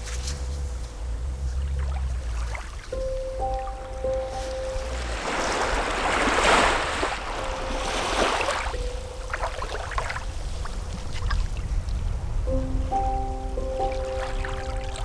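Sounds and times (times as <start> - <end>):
soft background music: 0.0 - 15.0
water washing: 0.0 - 15.0.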